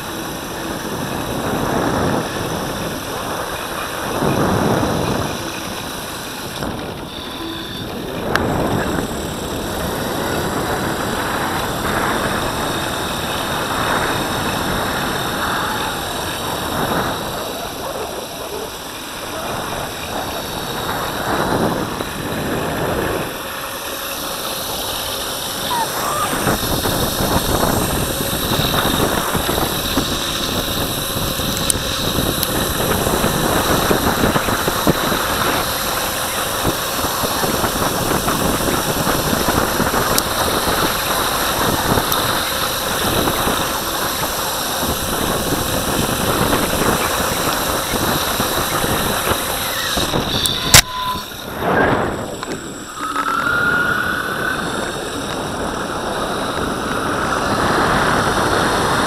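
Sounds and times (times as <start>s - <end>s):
electric board rolling on asphalt: 0.0s - 59.0s
short rising whine: 0.0s - 59.0s.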